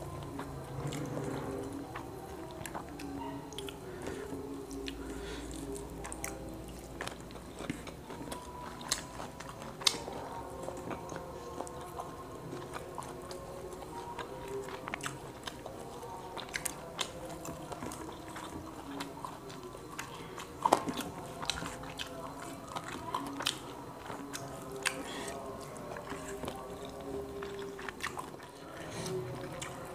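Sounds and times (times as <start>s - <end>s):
person chewing and smacking: 0.0s - 29.9s.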